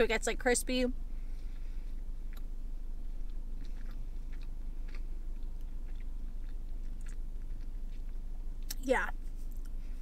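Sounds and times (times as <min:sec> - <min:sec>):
steady low hum: 0:00.0 - 0:10.0
person chewing sandwich: 0:01.4 - 0:10.0.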